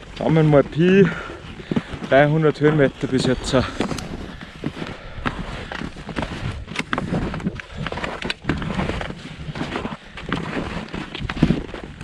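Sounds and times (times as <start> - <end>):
ski poles crunching into snow: 0.0 - 12.0
skis shuffling through snow: 0.0 - 12.0.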